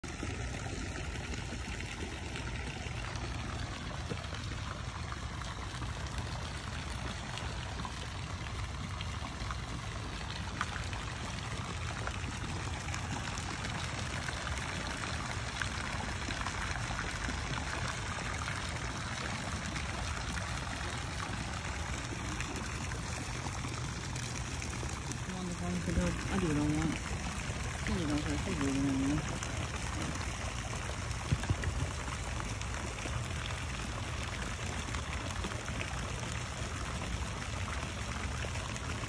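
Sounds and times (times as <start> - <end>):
fountain jets splashing into water: 0.0 - 39.0.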